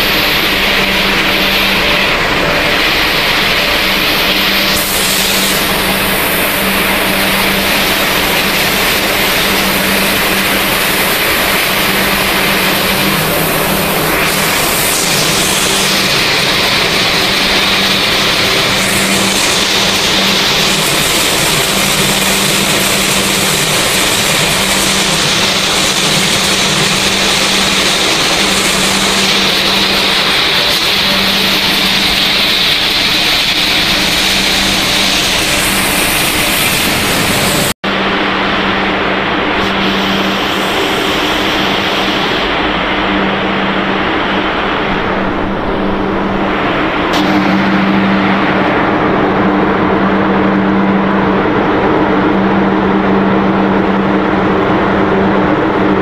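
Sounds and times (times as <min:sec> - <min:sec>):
production line machinery running: 0:00.0 - 0:56.0.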